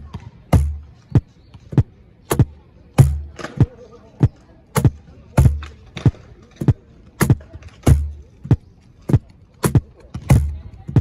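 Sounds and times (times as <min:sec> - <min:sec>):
cajon bass strokes: 0:00.0 - 0:11.0
cajon edge slaps: 0:00.0 - 0:11.0.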